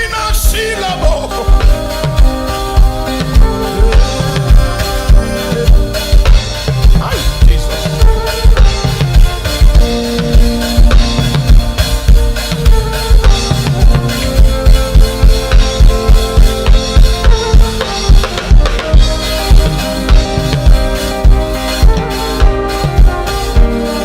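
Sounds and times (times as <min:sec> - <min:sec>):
drum kit beat: 0:00.0 - 0:24.0
held keyboard chords: 0:00.0 - 0:24.0.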